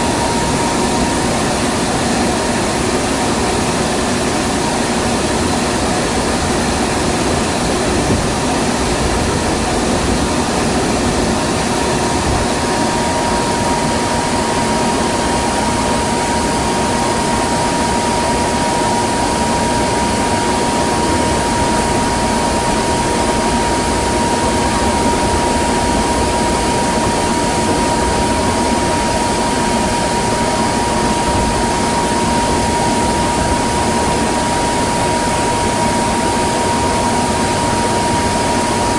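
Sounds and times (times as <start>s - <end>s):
train running noise inside car: 0.0s - 38.9s.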